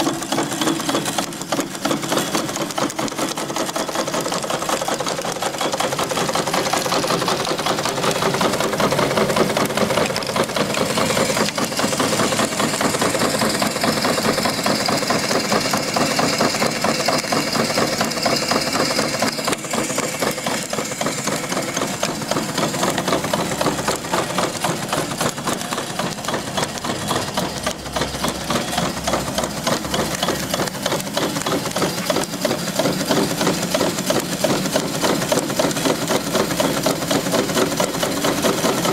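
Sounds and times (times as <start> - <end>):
steam engines beating: 0.0 - 38.9
steam hiss: 7.0 - 38.9.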